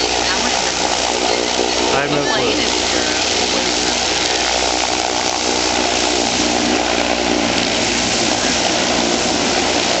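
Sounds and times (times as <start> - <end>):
airship propellers droning: 0.0 - 10.0.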